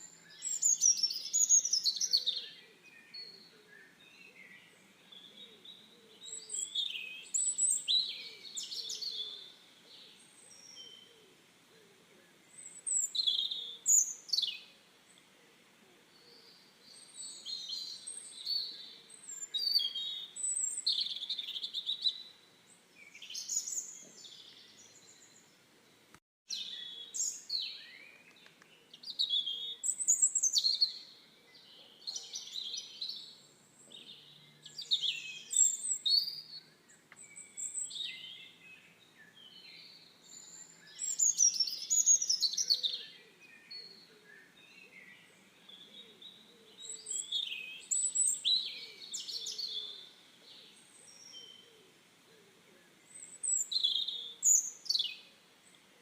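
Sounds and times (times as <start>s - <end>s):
songbirds chirping and whistling: 0.0s - 56.0s.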